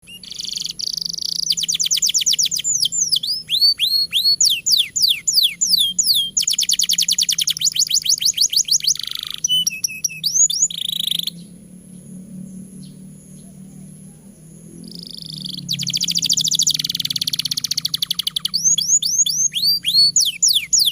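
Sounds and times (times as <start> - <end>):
canary singing: 0.0 - 20.9.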